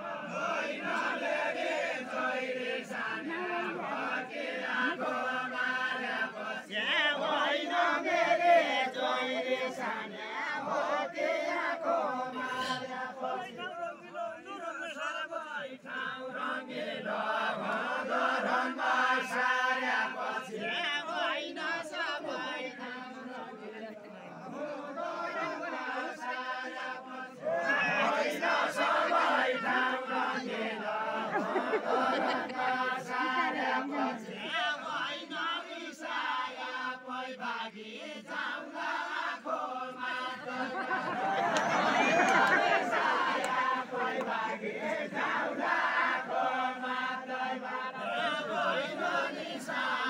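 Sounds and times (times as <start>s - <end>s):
men singing together: 0.0s - 23.4s, 24.4s - 50.0s.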